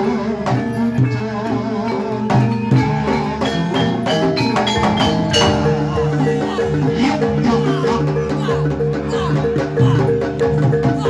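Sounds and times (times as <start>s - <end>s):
gamelan ensemble playing: 0.0s - 11.0s
hand drums: 0.0s - 11.0s
struck bronze metallophones: 0.5s - 11.0s.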